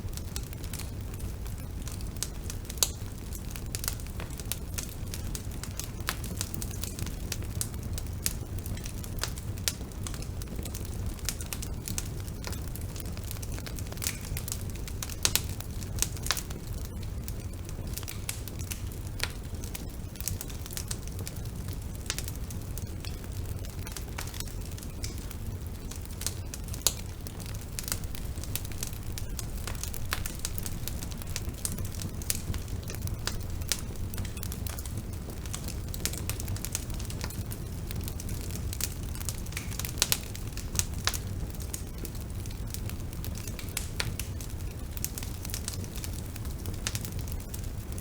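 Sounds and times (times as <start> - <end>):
bonfire crackling: 0.0 - 48.0
fire pops: 0.0 - 48.0.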